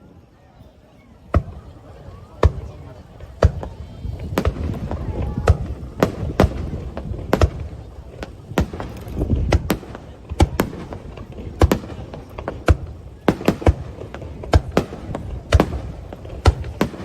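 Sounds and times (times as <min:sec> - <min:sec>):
fireworks bangs: 0:01.2 - 0:17.0.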